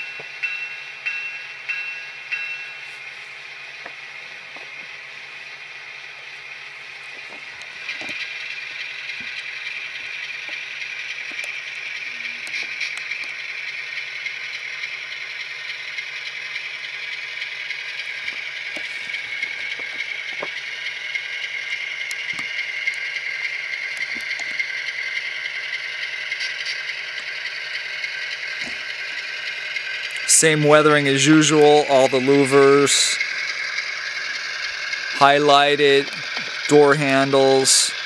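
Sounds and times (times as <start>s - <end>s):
diesel engine sound from small speaker: 2.9s - 38.0s
wheel clicks on track: 7.2s - 38.0s.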